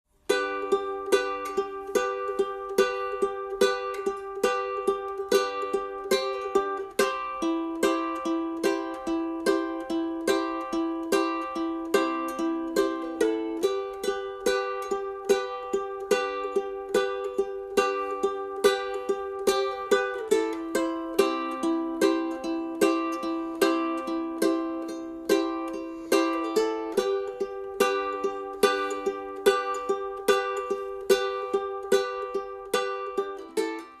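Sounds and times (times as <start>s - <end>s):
plucked string instrument music: 0.1s - 34.0s.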